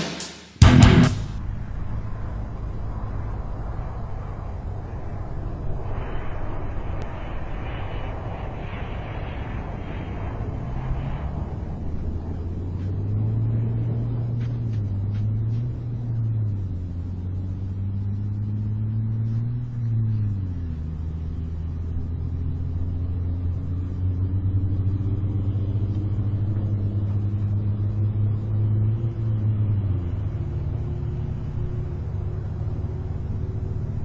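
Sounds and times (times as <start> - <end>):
engine rumble with shifting hum: 0.6 - 34.0.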